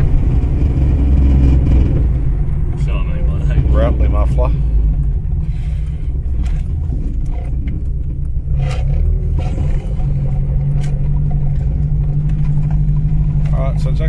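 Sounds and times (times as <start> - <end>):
car engine and exhaust drone: 0.0 - 14.0
muffler knocking: 0.0 - 14.0.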